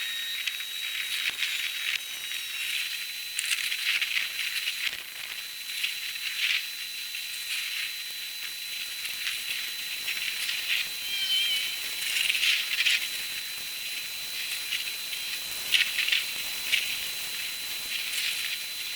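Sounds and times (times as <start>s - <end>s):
thin high whine: 0.0s - 18.9s.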